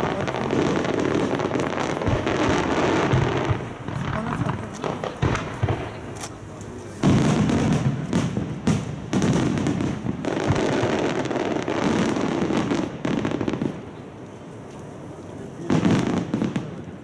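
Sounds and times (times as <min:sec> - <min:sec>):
aerial fireworks bursting: 0:00.0 - 0:14.3, 0:15.5 - 0:17.0.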